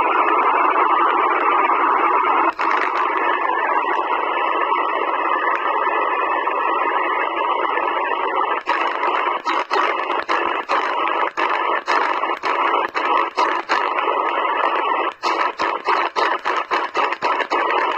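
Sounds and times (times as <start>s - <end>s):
radio static hiss: 0.0s - 17.9s.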